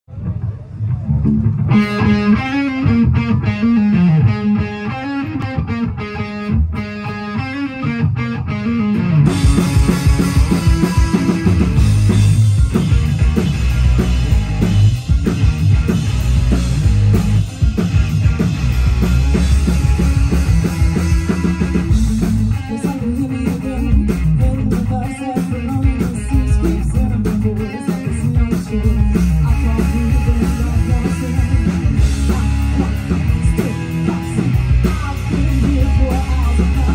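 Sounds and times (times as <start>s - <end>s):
drums: 0.1s - 36.9s
electric guitar: 0.1s - 36.9s
live rock band playing: 0.2s - 36.9s.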